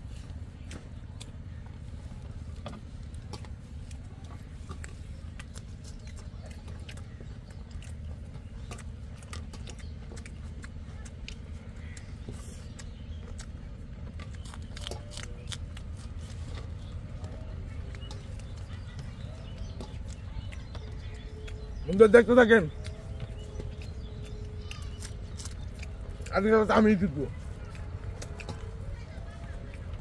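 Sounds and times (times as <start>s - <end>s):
chewing and fingers on plates: 0.0s - 30.0s
steady low rumble: 0.0s - 30.0s.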